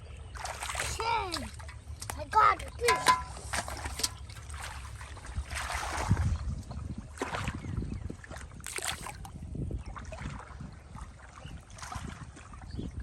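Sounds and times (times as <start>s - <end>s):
muddy water sloshing and splashing: 0.0s - 13.0s
wind rumble on microphone: 0.0s - 13.0s.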